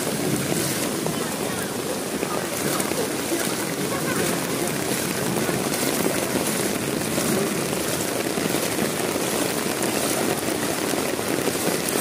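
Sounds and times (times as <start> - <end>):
torrential rain on a street: 0.0 - 12.0.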